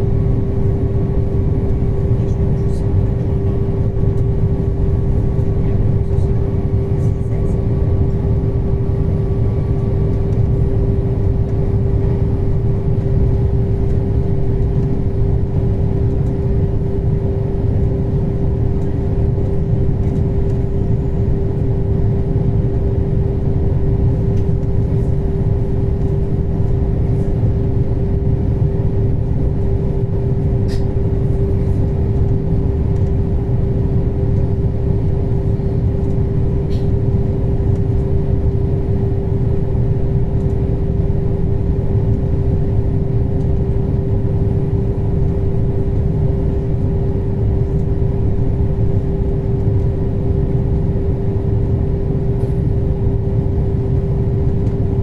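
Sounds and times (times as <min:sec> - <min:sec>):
passenger train running rumble: 0:00.0 - 0:55.0.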